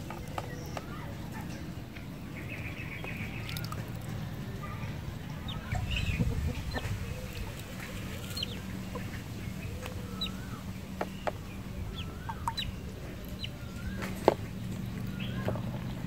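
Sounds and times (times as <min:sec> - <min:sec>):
ducklings peeping: 0:00.0 - 0:16.0
steady low hum: 0:00.9 - 0:16.0.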